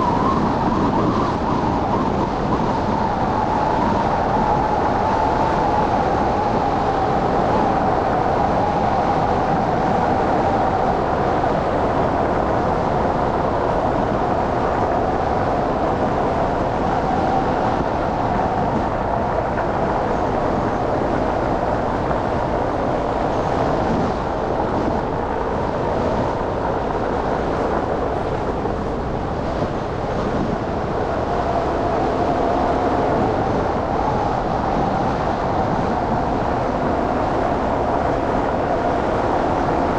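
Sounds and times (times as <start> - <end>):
car road noise: 2.2 - 39.9.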